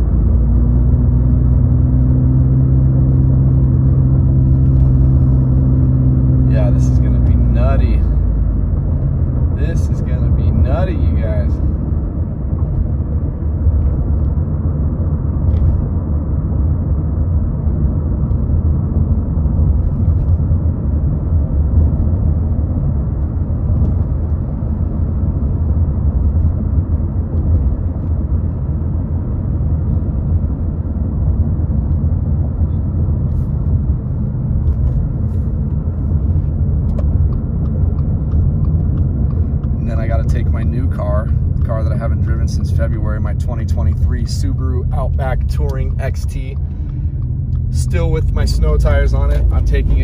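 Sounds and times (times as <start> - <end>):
car engine and tyre rumble: 0.0 - 50.0.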